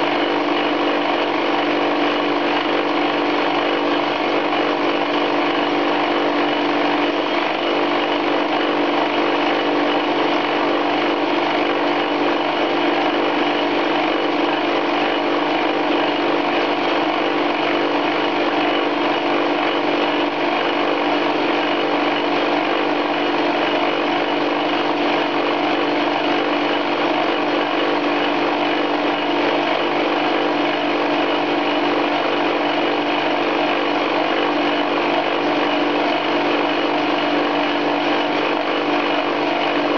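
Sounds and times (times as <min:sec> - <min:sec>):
metal lathe machining steel: 0:00.0 - 0:39.9.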